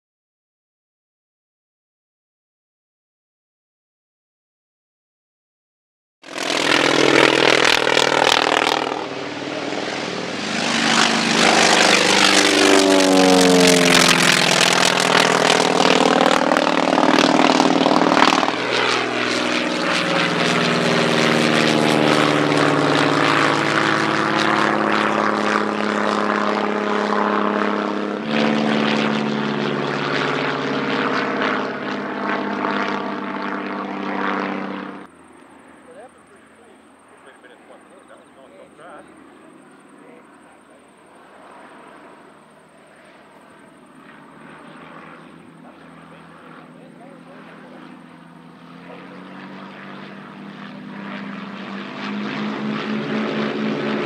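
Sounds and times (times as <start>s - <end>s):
propeller aircraft flying low: 6.2s - 54.0s.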